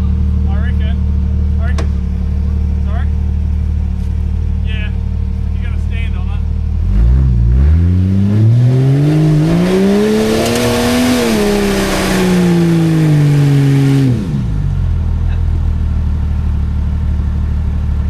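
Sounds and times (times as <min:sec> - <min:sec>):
engine revving and idling: 0:00.0 - 0:18.0.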